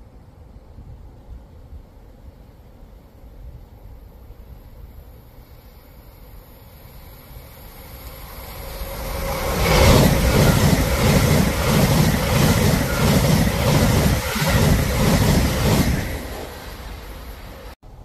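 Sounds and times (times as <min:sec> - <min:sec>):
passenger train passing at speed: 0:00.0 - 0:18.0.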